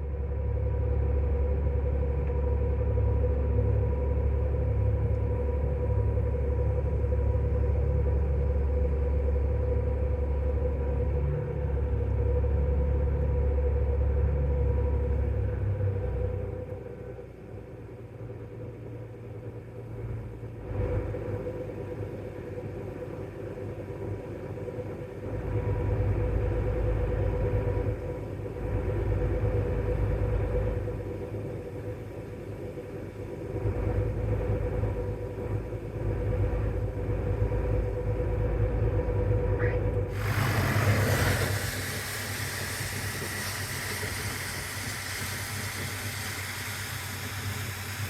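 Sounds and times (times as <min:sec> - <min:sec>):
combine harvester running: 0:00.0 - 0:48.0.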